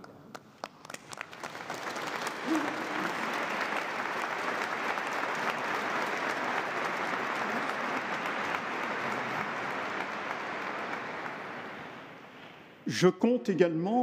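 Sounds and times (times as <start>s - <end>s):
congregation applauding: 0.0s - 12.7s.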